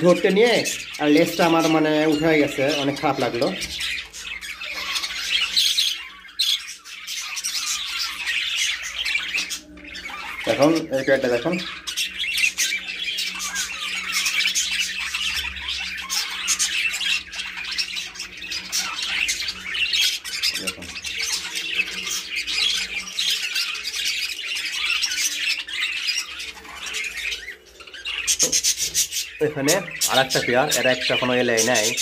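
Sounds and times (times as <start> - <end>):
budgerigars chattering and squawking: 0.0 - 32.0.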